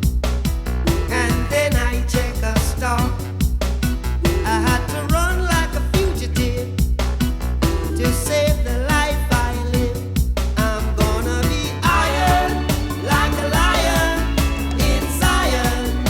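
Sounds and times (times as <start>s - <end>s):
song with heavy bass beat: 0.0s - 16.0s.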